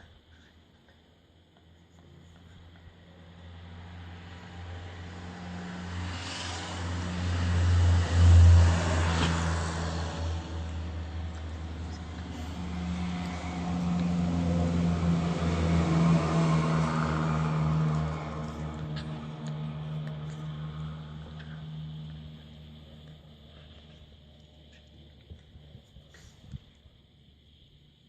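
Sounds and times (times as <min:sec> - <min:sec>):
engine humming: 0:01.6 - 0:26.6.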